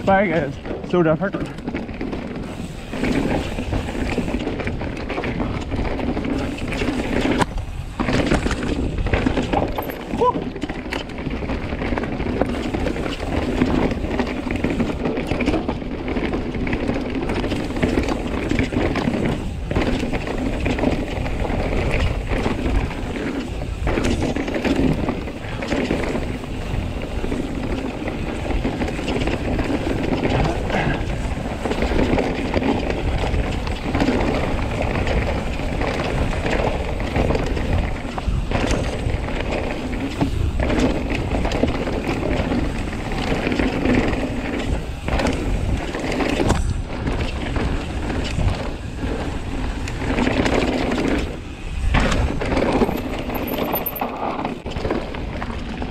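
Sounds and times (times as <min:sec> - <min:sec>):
bike chain and frame rattling: 0:00.0 - 0:55.9
bike tyres on dirt: 0:00.0 - 0:55.9.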